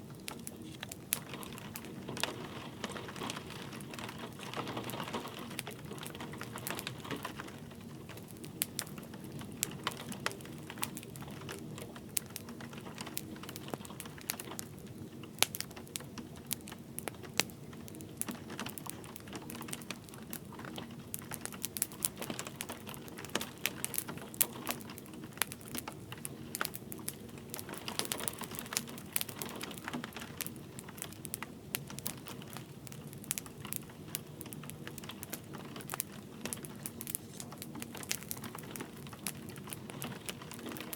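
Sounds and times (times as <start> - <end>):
gentle rain: 0.0 - 40.9
wood fire crackling: 0.0 - 40.9.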